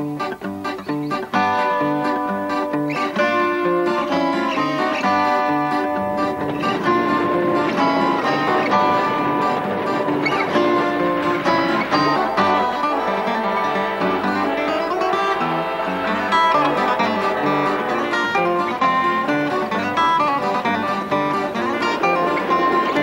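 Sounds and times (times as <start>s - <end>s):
plucked string instrumental music: 0.0s - 23.0s.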